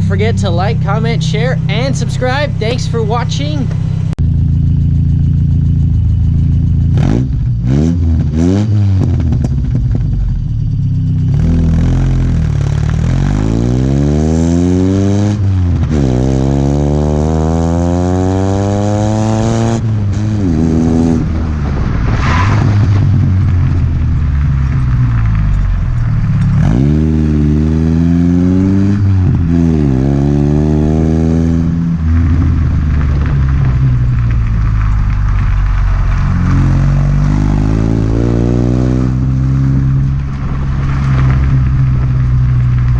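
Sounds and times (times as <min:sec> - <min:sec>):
engine accelerating through gears: 0:00.0 - 0:42.9
truck engine revving: 0:00.0 - 0:42.9.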